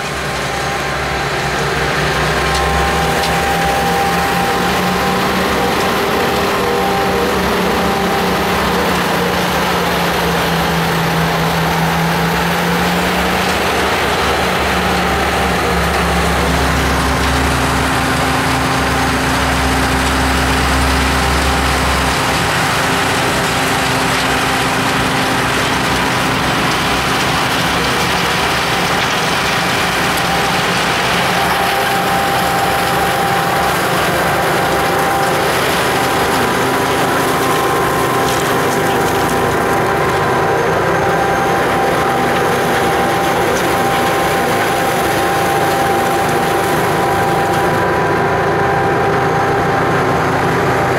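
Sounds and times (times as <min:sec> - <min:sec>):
snow blower machine drone: 0:00.0 - 0:50.9.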